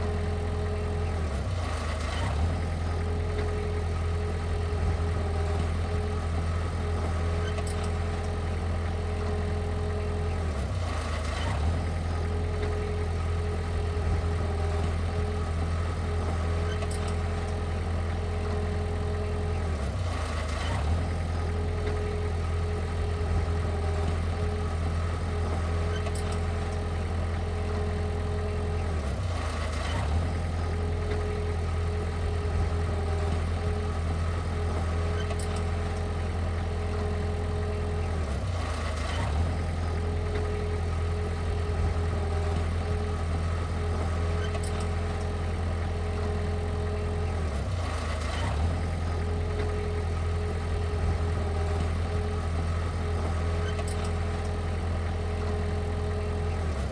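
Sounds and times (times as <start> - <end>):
heavy machine engine droning: 0.0 - 56.9.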